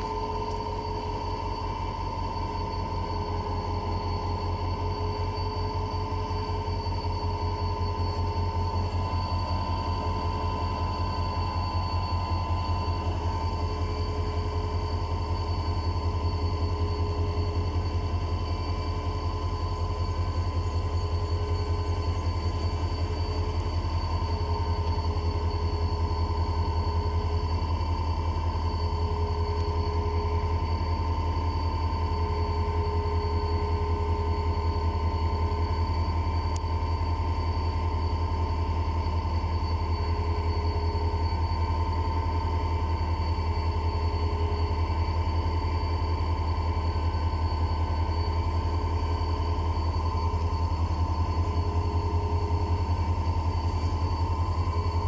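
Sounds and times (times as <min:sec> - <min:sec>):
high whine: 0:00.0 - 0:55.0
locomotive idling rumble: 0:00.0 - 0:55.0.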